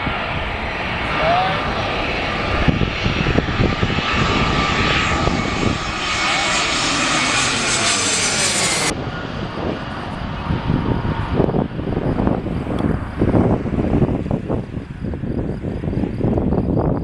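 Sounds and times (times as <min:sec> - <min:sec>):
jet engine noise with whine: 0:00.0 - 0:17.0.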